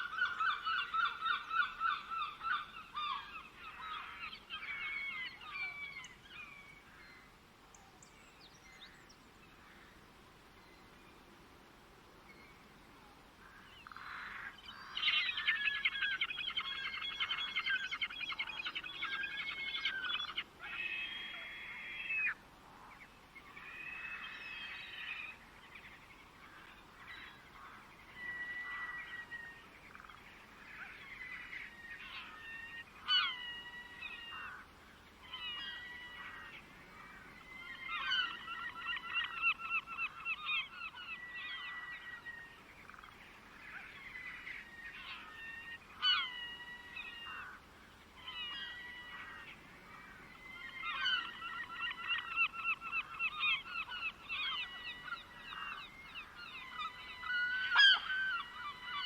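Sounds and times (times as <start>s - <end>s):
songbirds singing: 0.0s - 11.5s, 12.2s - 59.0s.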